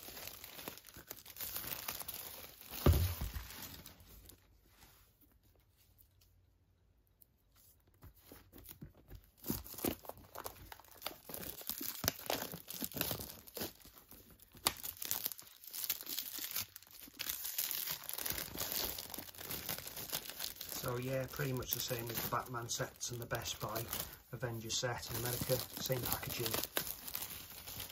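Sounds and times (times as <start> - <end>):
plastic wrap crinkling: 0.0 - 4.5, 8.2 - 27.9.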